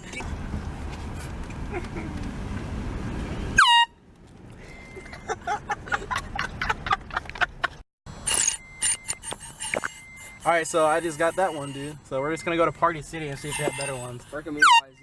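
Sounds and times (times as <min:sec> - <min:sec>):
car rumbling on the move: 0:00.0 - 0:14.8.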